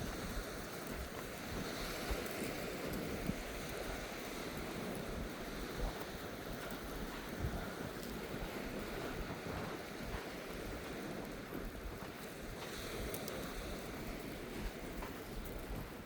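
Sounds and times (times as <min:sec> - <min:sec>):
waves washing on beach: 0:00.0 - 0:16.0
wind gusting on microphone: 0:00.0 - 0:16.0.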